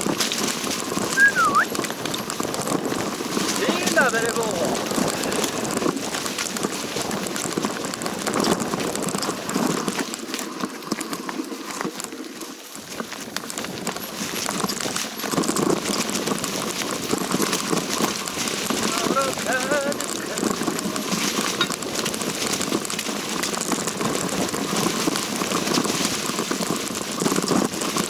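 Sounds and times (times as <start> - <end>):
footsteps crunching through dry leaves: 2.8 - 10.8, 12.6 - 28.0.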